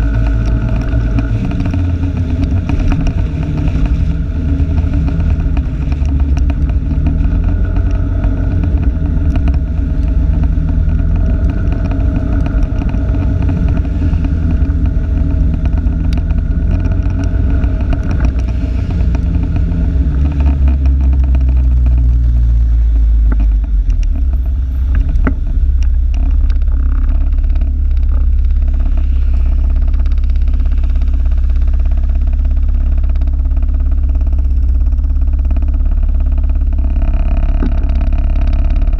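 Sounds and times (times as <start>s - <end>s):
vehicle engine rumble: 0.0s - 38.9s.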